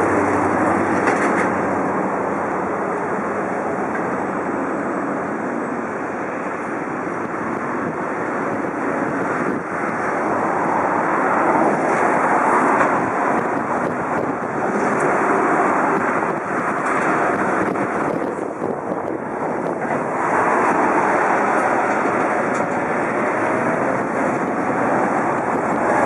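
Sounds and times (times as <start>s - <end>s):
distant jet airliner roar: 0.0s - 26.0s
wind rumbling on microphone: 0.0s - 26.0s.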